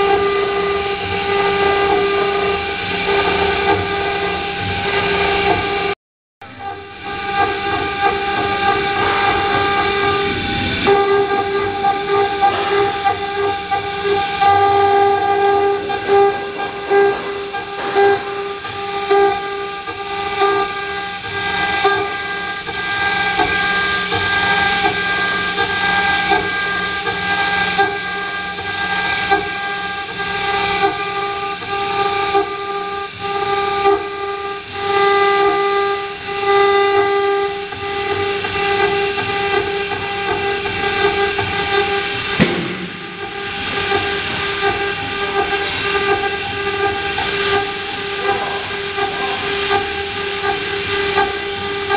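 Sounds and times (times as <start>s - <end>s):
spindle whining at high pitch: 0.0s - 51.9s.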